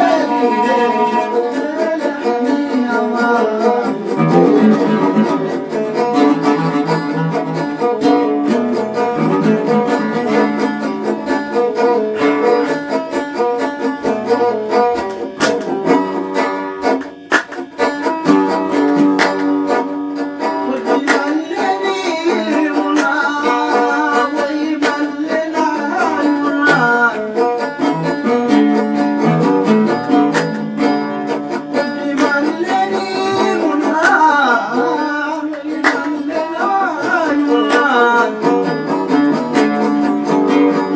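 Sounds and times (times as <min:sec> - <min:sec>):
plucked strings: 0:00.0 - 0:40.9.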